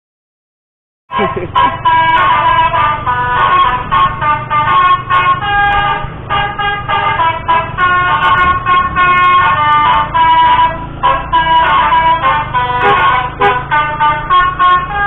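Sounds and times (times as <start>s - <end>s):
musical vehicle horn playing tune: 1.1s - 15.0s.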